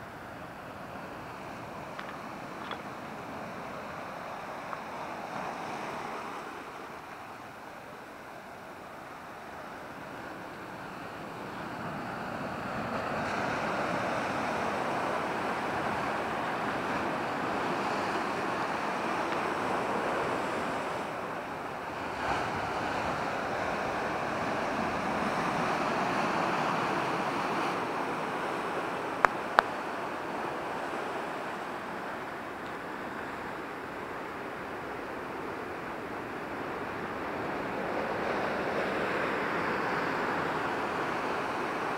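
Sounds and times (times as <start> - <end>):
surf washing over rocks: 0.0 - 41.9.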